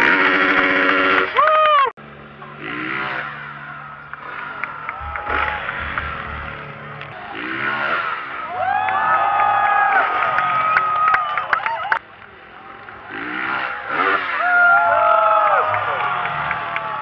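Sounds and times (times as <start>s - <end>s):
crowd noise: 0.0s - 17.0s
motocross engines revving: 0.0s - 17.0s.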